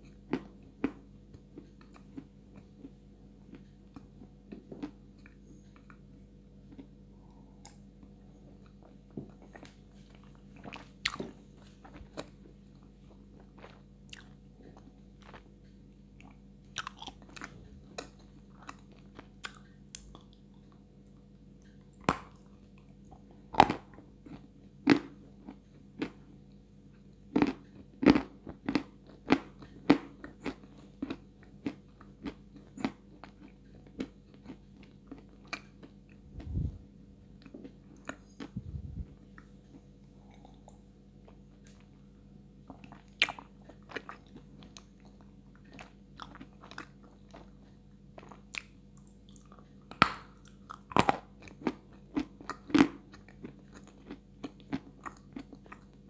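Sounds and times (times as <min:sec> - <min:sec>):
crunchy chewing of clay: 0:00.0 - 0:36.8, 0:37.4 - 0:56.0.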